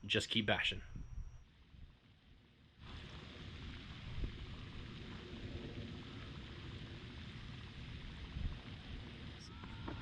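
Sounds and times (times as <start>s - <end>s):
outdoor background noise: 0.0s - 10.0s.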